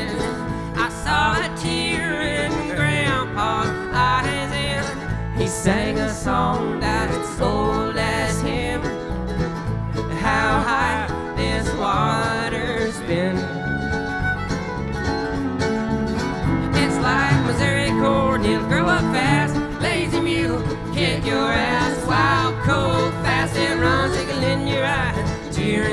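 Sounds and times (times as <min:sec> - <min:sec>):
bluegrass band on acoustic strings: 0:00.0 - 0:25.9.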